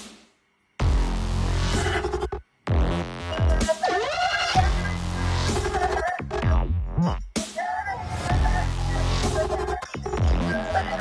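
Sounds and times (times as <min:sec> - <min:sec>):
electronic music with dubstep beat: 0:00.8 - 0:11.0.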